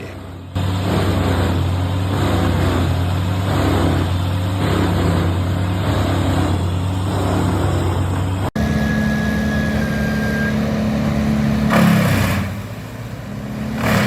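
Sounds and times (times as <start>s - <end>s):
wood chipper engine drone: 0.0s - 14.0s.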